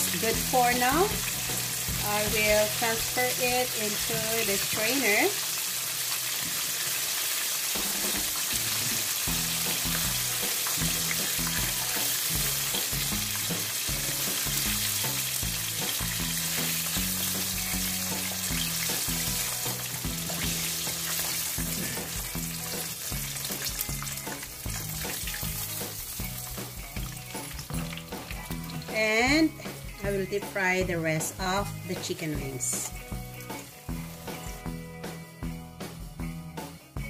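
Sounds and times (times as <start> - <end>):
chicken wings sizzling in hot oil: 0.0 - 34.8.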